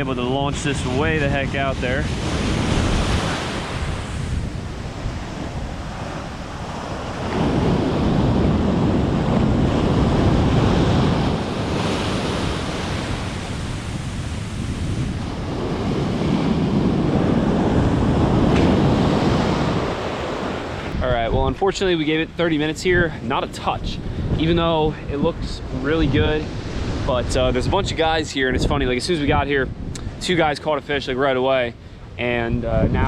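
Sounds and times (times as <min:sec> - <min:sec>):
ocean surf breaking: 0:00.0 - 0:33.0
wind buffeting microphone: 0:00.0 - 0:33.0.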